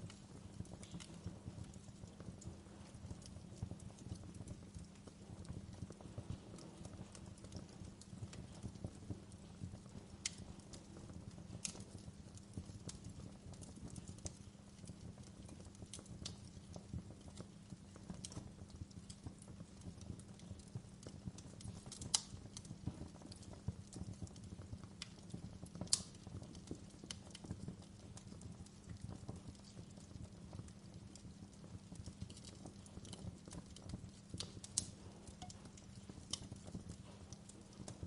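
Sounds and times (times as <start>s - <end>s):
low rumble of flames: 0.0s - 38.0s
wood fire crackling: 0.0s - 38.0s.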